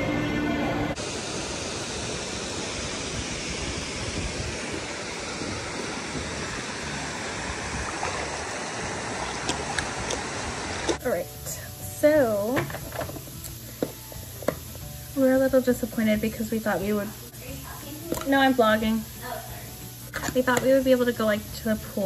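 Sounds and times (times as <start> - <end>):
pool water rushing: 0.9 - 22.0.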